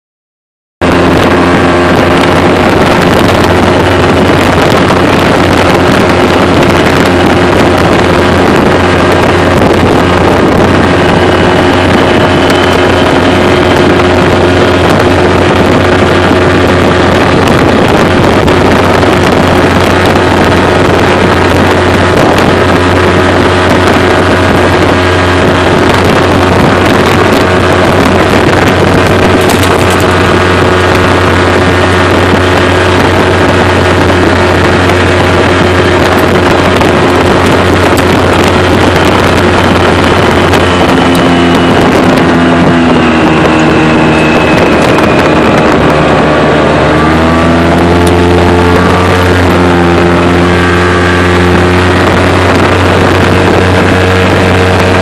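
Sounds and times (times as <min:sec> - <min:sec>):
vehicle engine running: 0:00.8 - 0:55.0
wind on microphone: 0:00.8 - 0:55.0.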